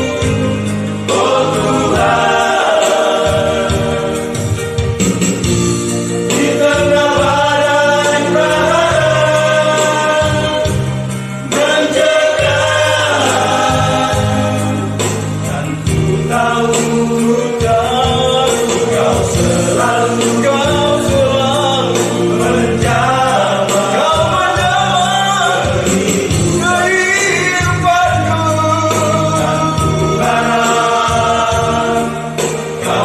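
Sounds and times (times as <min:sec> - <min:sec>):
vocal group singing in harmony: 0:00.0 - 0:33.0.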